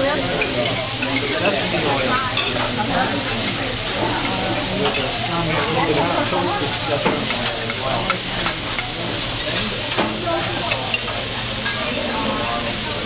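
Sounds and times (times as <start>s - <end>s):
beef sizzling on a griddle: 0.0s - 13.0s.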